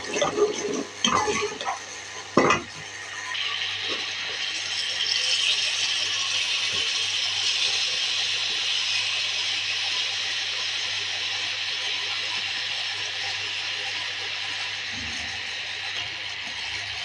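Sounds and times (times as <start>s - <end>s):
spinach sizzling in hot oil: 0.0s - 17.0s.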